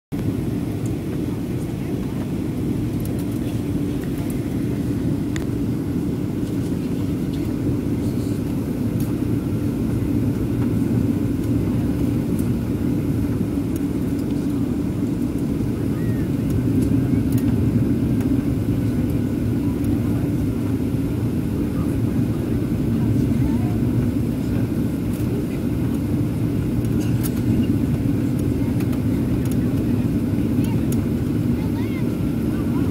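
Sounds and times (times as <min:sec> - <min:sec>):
jet engine cabin roar: 0:00.1 - 0:32.9.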